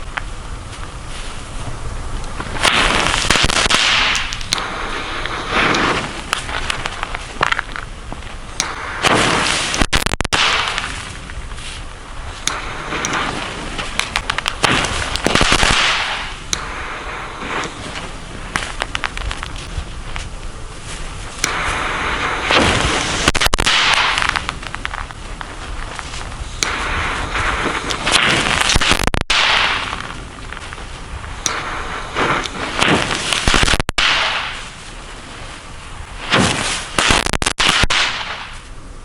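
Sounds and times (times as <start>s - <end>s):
fireworks hissing and crackling: 0.0s - 39.0s.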